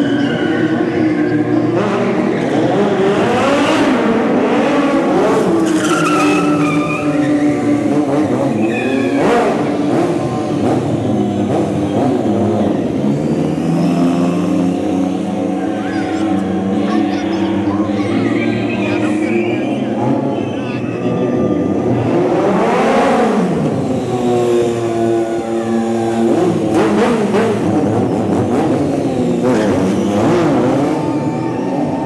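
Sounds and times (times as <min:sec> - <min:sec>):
motorcycle engines revving: 0:00.0 - 0:32.0
tires squealing and skidding: 0:00.0 - 0:32.0.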